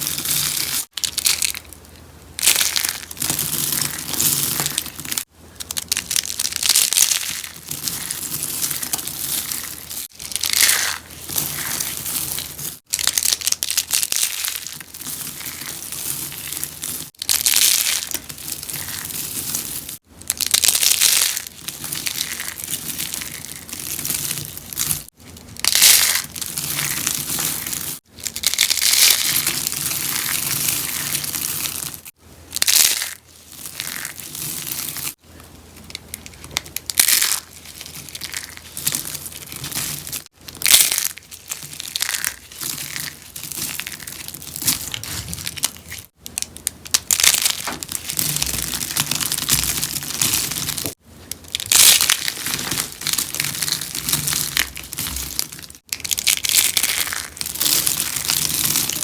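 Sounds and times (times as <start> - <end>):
soap crunching and crumbling: 0.0 - 59.0.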